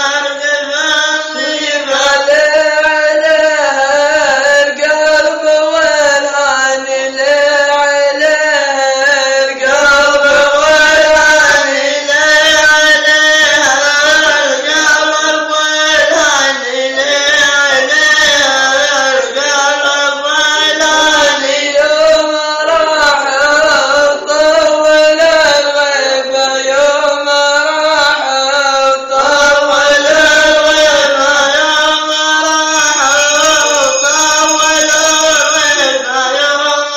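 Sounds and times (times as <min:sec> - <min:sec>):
man chanting unaccompanied: 0:00.0 - 0:36.9.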